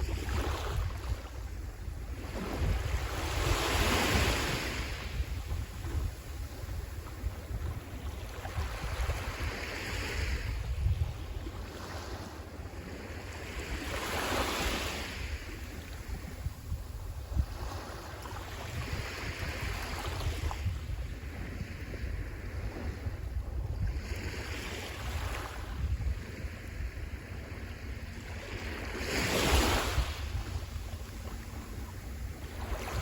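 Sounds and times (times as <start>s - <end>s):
sea waves breaking on shore: 0.0s - 33.0s
wind rumbling on microphone: 0.0s - 33.0s.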